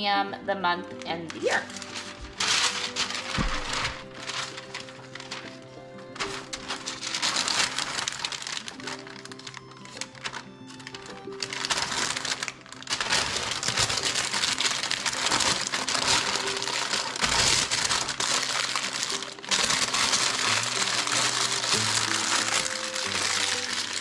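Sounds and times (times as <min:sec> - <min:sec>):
background music: 0:00.0 - 0:24.0
parchment paper crinkling: 0:00.9 - 0:24.0.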